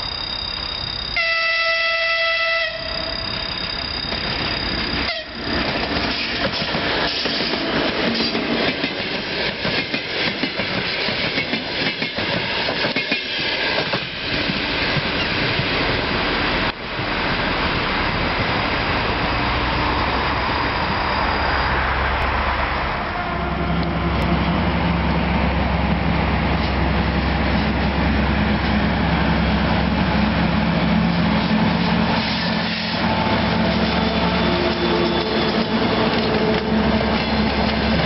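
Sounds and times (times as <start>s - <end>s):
distant train rumble: 0.0s - 38.0s.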